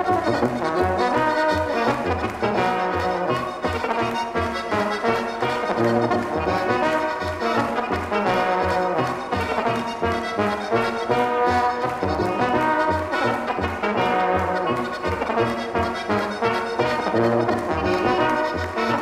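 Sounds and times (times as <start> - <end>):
audience clapping along: 0.0 - 19.0
brass band playing lively tune: 0.0 - 19.0
tuba bass pulsing: 0.0 - 19.0.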